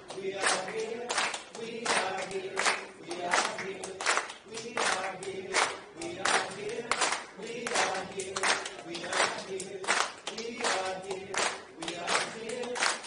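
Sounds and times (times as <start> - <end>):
hand clapping: 0.0 - 13.0
people singing held notes: 0.0 - 13.0.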